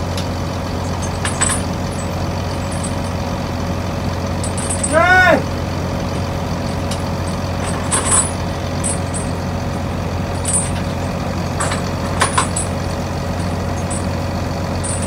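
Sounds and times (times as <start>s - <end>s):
heavy steel chains clinking: 0.0s - 15.0s
machinery droning: 0.0s - 15.0s.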